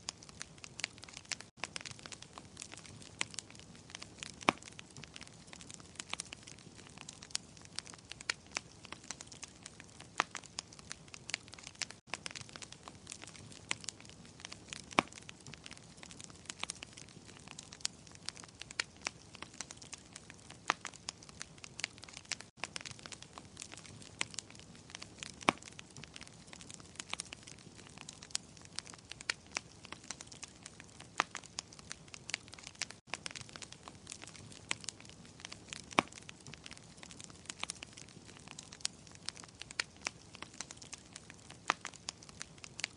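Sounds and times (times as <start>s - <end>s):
soft steady hiss: 0.0s - 42.9s
wood fire crackling: 0.0s - 42.9s.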